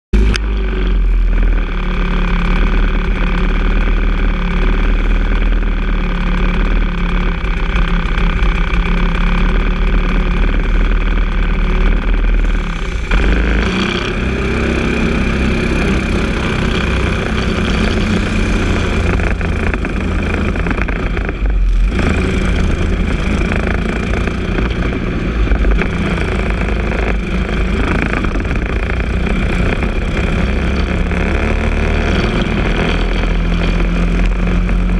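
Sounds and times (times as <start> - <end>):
engine running under load: 0.2 - 34.9
kart engine idling: 0.2 - 34.9.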